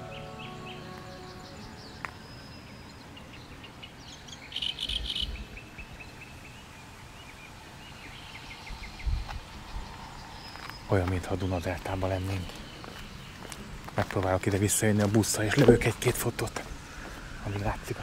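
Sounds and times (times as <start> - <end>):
birds chirping: 0.0 - 18.0
insects: 0.1 - 18.0.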